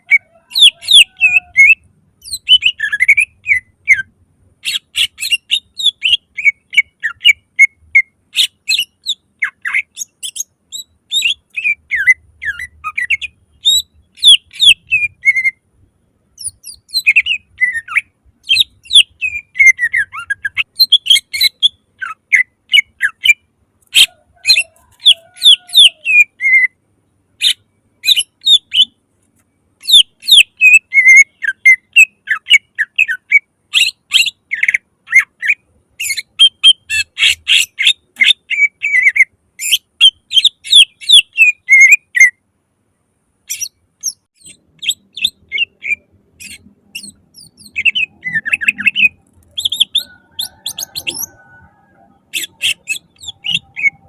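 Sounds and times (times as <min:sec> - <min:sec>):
bird singing whistled notes: 0:00.0 - 0:15.6, 0:16.4 - 0:23.4, 0:24.0 - 0:26.8, 0:27.4 - 0:29.0, 0:29.8 - 0:42.4, 0:43.5 - 0:54.0.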